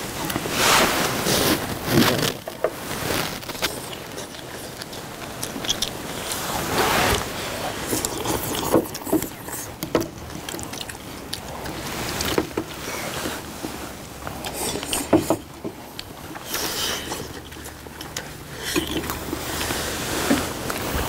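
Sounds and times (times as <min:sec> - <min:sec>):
slurping noodle soup: 0:00.0 - 0:21.0
chewing: 0:01.2 - 0:21.0.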